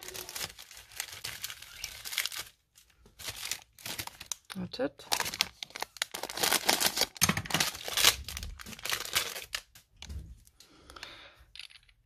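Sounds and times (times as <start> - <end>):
plastic packaging crinkling: 0.0 - 10.1.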